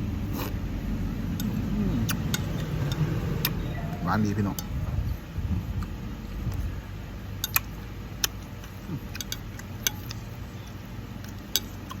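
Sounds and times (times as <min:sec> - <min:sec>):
low steady background noise: 0:00.0 - 0:12.0
sharp eating clicks: 0:00.3 - 0:05.1, 0:05.7 - 0:06.7, 0:07.3 - 0:12.0.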